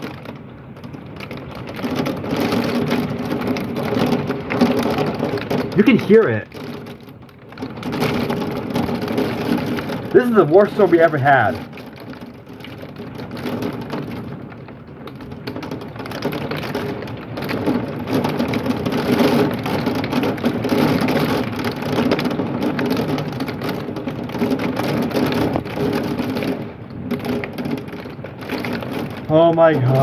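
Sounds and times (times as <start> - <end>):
hail and rain pelting a window: 0.0 - 30.0.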